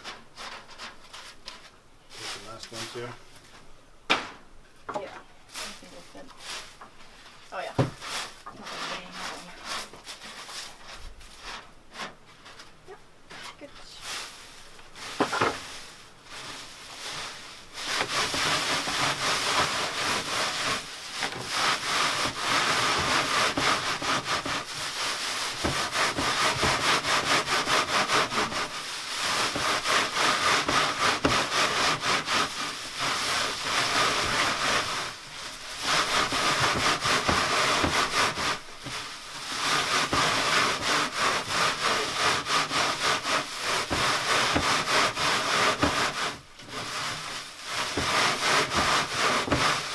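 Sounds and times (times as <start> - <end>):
dry nettles rasping on screen: 5.5 - 49.9.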